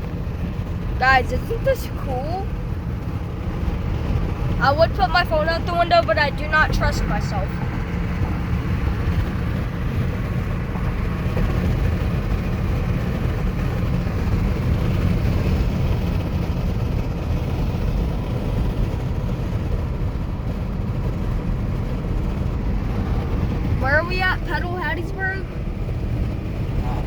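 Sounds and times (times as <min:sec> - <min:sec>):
car road rumble from inside: 0:00.0 - 0:27.0.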